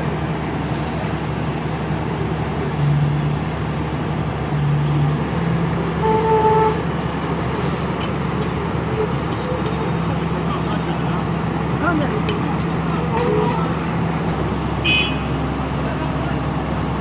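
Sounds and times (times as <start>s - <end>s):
heavy vehicle engine humming: 0.0s - 17.0s
road traffic noise: 0.0s - 17.0s.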